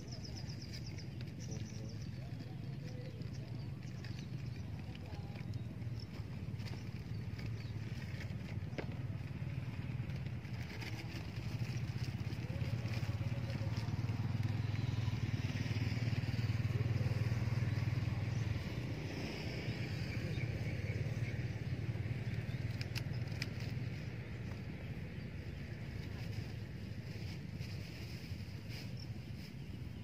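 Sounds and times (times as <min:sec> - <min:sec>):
small engine pulsing hum: 0:00.0 - 0:30.0.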